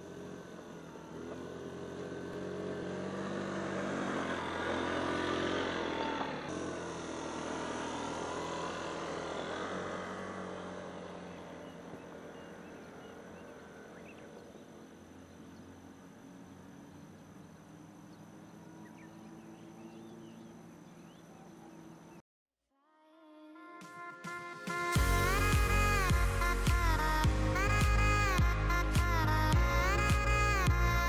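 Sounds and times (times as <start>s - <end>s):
motor scooter engine running: 0.0s - 22.2s, 25.0s - 31.0s.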